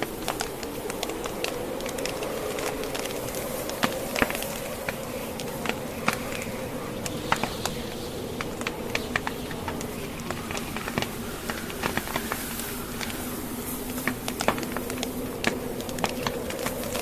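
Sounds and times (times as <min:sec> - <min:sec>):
blizzard wind rushing: 0:00.0 - 0:17.0
wood fire crackling: 0:00.0 - 0:17.0.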